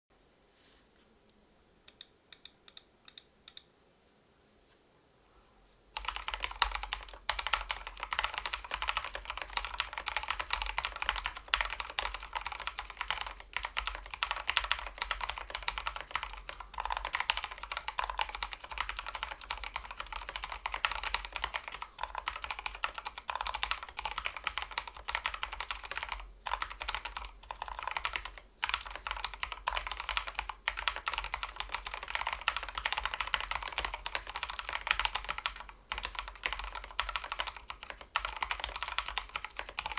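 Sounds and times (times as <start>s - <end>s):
fast typing on mechanical keyboard: 6.0s - 39.9s.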